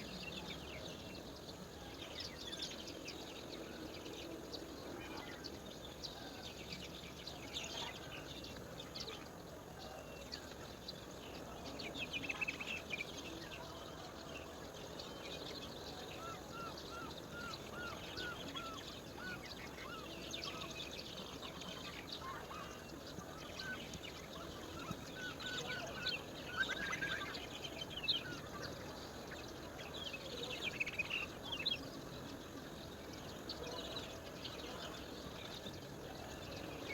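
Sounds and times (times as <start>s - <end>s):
outdoor background noise: 0.0s - 36.9s
wild birds chirping: 0.0s - 36.9s.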